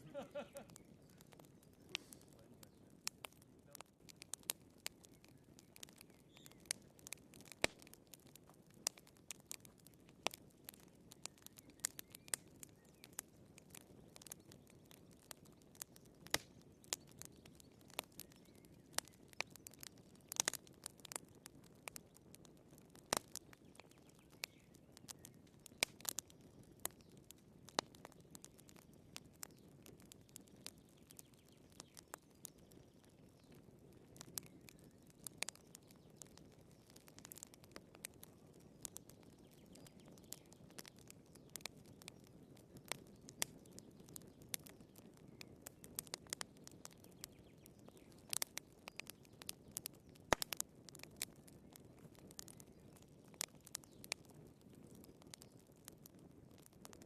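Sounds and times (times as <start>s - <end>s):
firewood popping and snapping: 0.0s - 57.0s.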